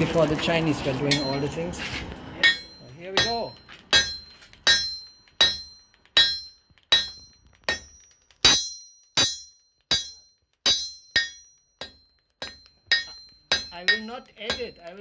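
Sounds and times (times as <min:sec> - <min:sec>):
hammer striking metal on anvil: 0:01.0 - 0:01.7, 0:02.4 - 0:15.0.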